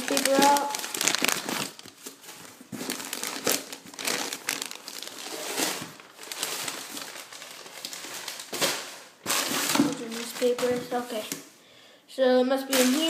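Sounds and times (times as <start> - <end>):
newspaper rustling and crinkling: 0.0 - 11.4, 12.7 - 13.0.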